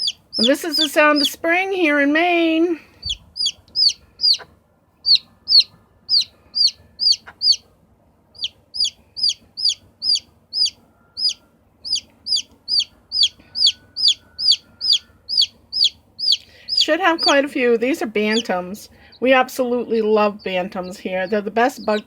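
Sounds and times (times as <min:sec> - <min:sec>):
chick peeping: 0:00.0 - 0:07.7, 0:08.4 - 0:22.0.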